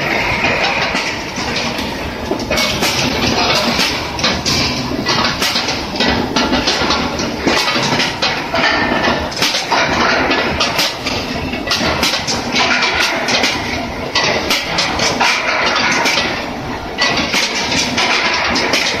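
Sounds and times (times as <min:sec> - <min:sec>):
metallic clanks and clatter: 0:00.0 - 0:19.0
steady machinery din: 0:00.0 - 0:19.0.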